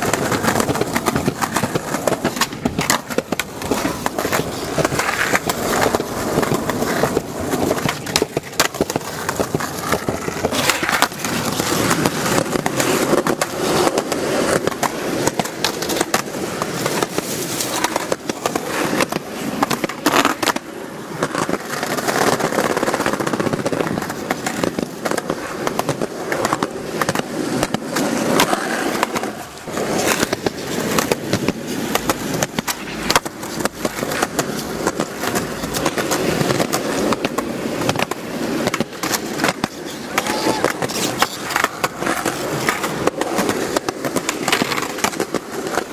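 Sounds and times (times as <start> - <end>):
skateboard clacks popping and landing: 0.0 - 45.9
skateboard wheels rolling on pavement: 0.0 - 45.9.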